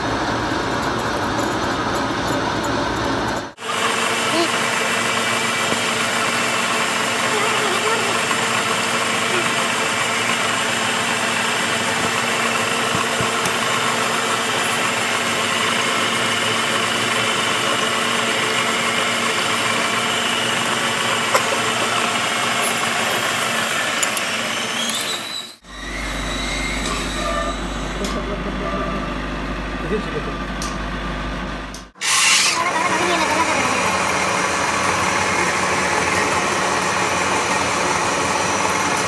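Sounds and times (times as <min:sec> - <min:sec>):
lathe hum with whine: 0:00.0 - 0:39.0.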